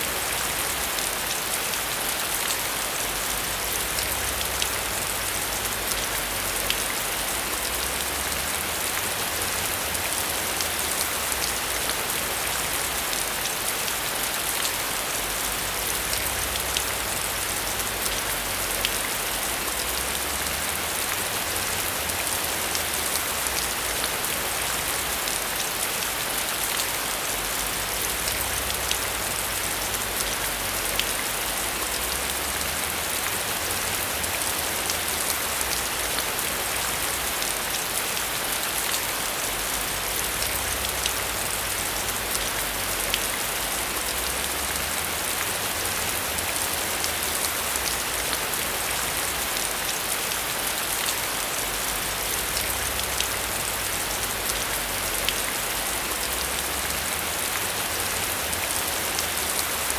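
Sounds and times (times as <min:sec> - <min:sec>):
heavy rain: 0:00.0 - 0:59.9
raindrops ticking on a surface: 0:00.1 - 0:59.9.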